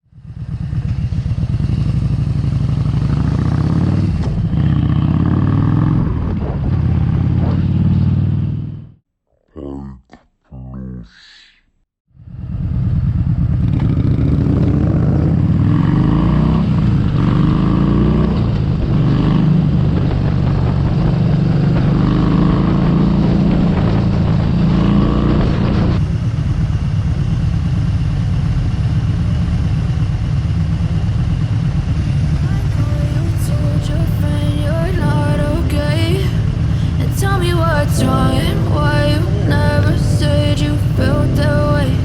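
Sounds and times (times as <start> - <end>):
motorcycle engine running: 0.1 - 9.0, 12.3 - 42.0.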